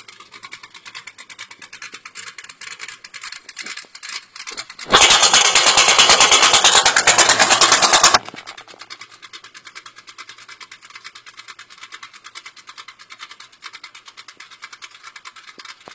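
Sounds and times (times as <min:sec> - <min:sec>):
engine pulsing through headers: 0:00.0 - 0:15.9.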